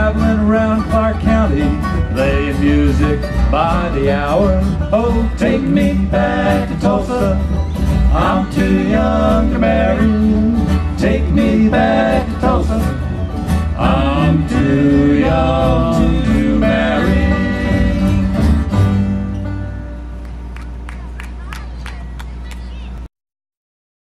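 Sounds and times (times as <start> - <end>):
bluegrass string band playing: 0.0 - 20.8.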